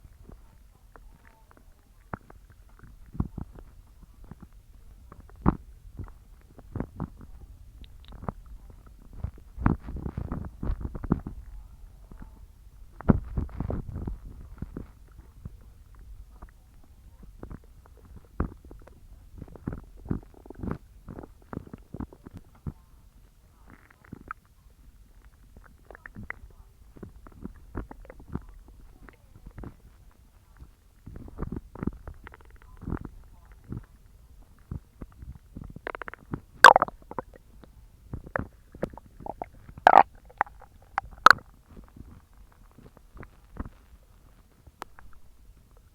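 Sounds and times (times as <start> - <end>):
stomach growling and gurgling: 0.0 - 45.9.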